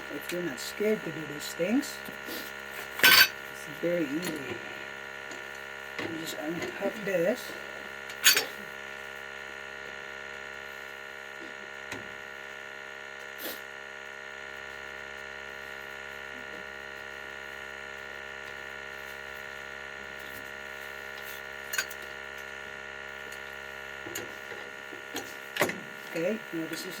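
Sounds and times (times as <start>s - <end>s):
boiler room hum: 0.0s - 27.0s.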